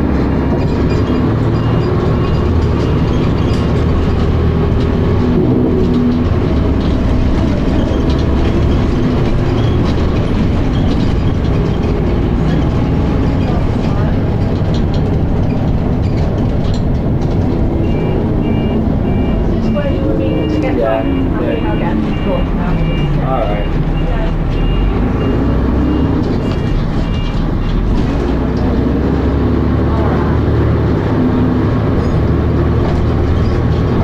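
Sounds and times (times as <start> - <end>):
bus body rattles: 0.0 - 34.0
bus diesel engine drone: 0.0 - 34.0.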